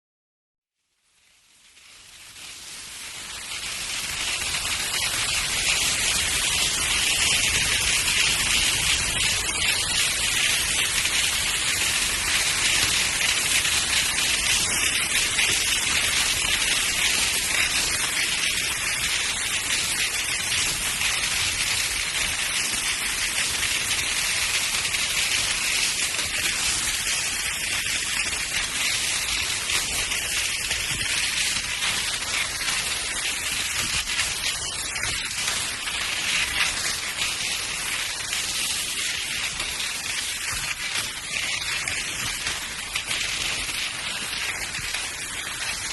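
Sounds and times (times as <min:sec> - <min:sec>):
skis sliding over snow: 0:01.7 - 0:45.9.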